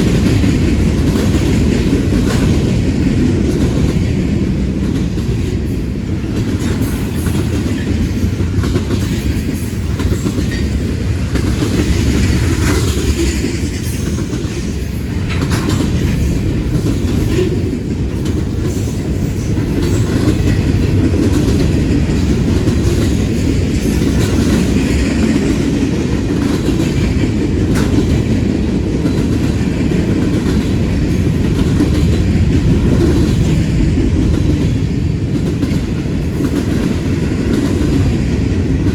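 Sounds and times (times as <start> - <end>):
train wheels rumbling on rails: 0.0 - 38.9
wheels clicking over rail joints: 0.0 - 38.9.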